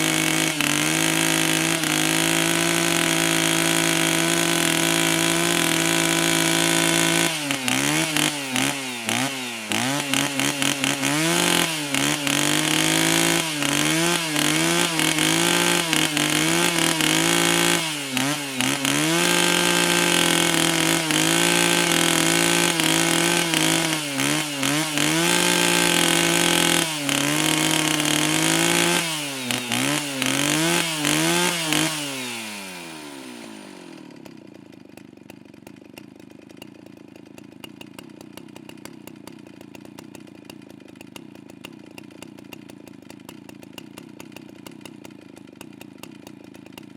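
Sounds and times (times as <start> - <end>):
chainsaw running at high revs: 0.0 - 46.9.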